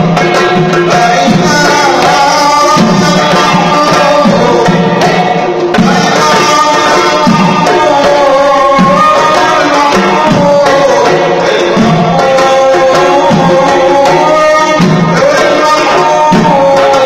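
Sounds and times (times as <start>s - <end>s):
men singing chant together: 0.0s - 17.0s.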